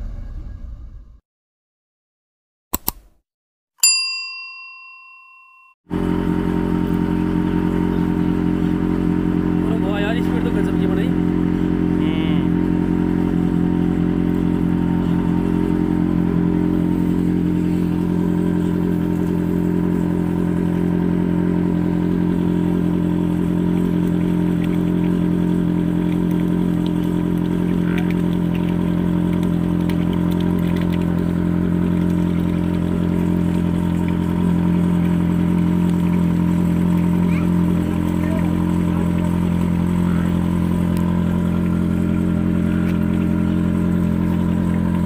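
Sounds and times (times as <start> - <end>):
suction machine engine droning: 5.9 - 45.0.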